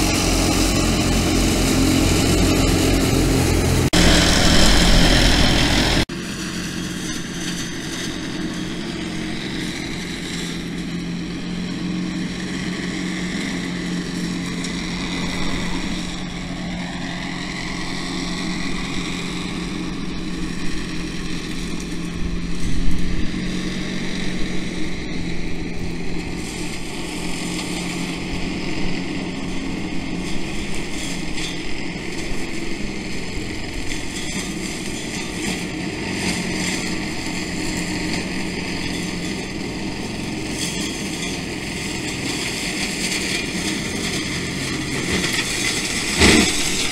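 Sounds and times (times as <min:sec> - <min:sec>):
tractor with hedge cutter running: 0:00.0 - 0:46.9.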